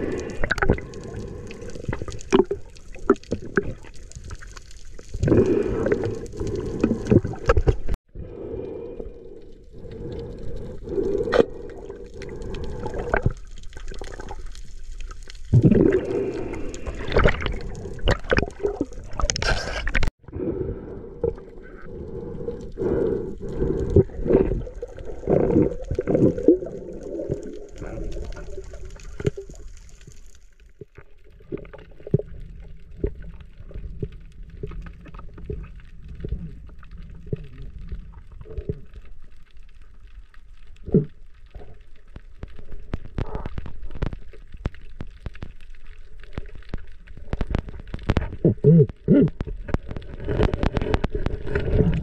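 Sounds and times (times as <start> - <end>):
underwater water sloshing: 8.6 - 48.4, 49.4 - 52.0.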